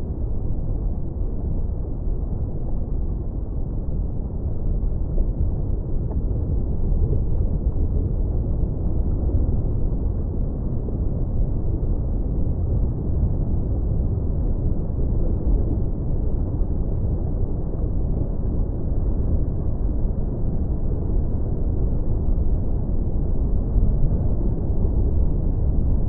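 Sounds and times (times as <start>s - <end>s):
muffled surf rumble: 0.0s - 26.0s.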